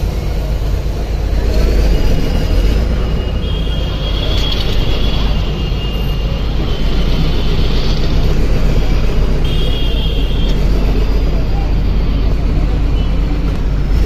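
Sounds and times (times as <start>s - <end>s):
bus engine and road rumble: 0.0s - 14.0s
high-pitched squeal: 1.7s - 13.4s.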